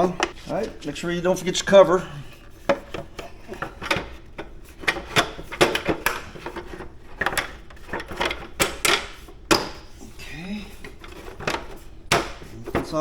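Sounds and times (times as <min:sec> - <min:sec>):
plastic fairing clicking and rubbing: 0:00.0 - 0:13.0.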